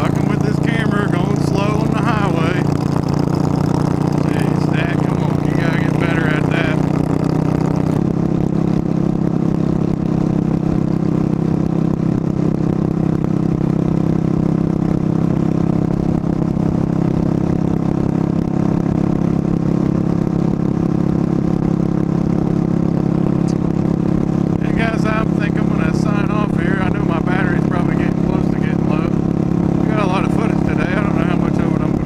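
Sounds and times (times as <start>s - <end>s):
motorcycle engine cruising: 0.0s - 32.0s
road noise: 0.0s - 32.0s.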